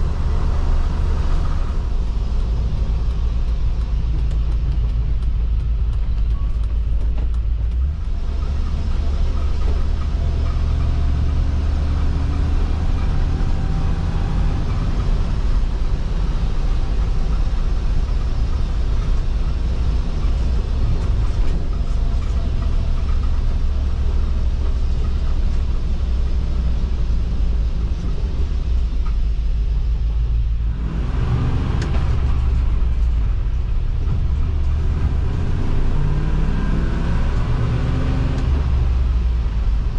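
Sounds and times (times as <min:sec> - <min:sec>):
engine rumble inside vehicle cab: 0:00.0 - 0:39.9.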